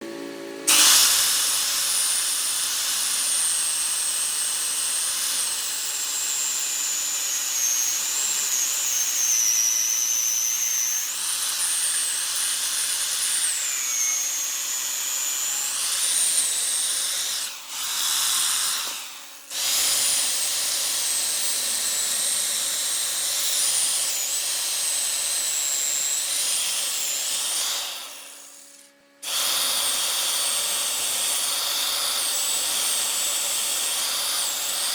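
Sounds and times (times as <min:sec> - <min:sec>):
power woodworking tool whining: 0:00.0 - 0:34.9.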